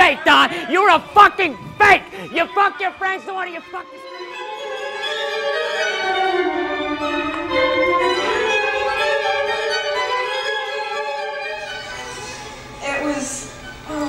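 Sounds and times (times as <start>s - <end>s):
violin playing slow melody: 0.4s - 14.0s.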